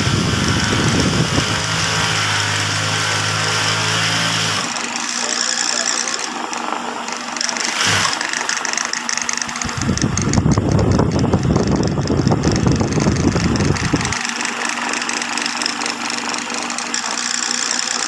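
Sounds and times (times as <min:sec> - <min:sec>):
sewing machine stitching: 0:00.0 - 0:18.0.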